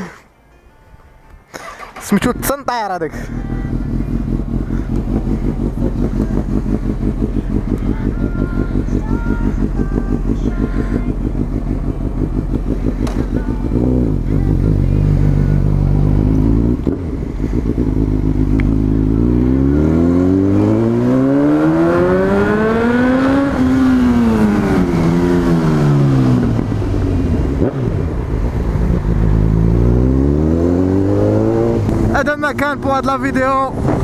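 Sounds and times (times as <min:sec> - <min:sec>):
motorcycle engine revving: 0:01.6 - 0:34.0.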